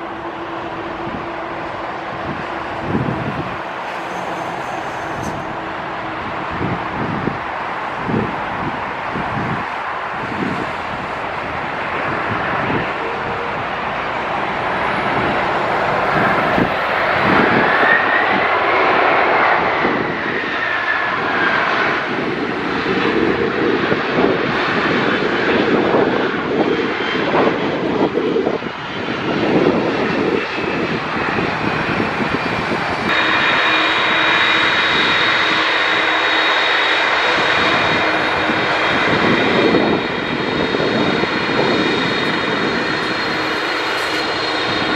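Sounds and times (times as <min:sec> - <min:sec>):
high whining tones: 0:00.0 - 0:21.4, 0:30.0 - 0:44.9
jet engines rushing and whining: 0:00.0 - 0:44.9.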